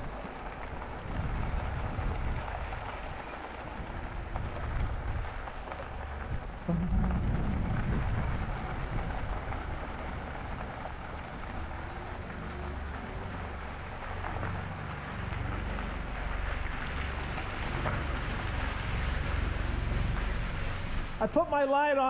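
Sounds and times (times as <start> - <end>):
wind buffeting microphone: 0.0 - 21.4
tyres rolling on trail: 0.0 - 21.8.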